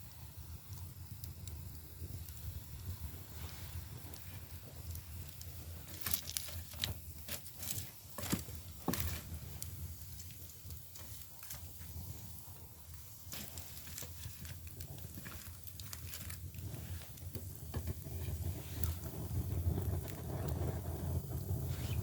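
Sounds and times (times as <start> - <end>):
firewood crackling and popping: 0.0 - 22.0
low fire rumble: 0.0 - 22.0.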